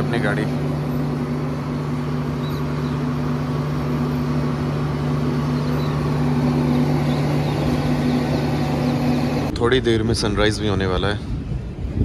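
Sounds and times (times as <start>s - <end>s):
low hum: 0.0s - 12.0s
train rumbling: 0.0s - 12.0s.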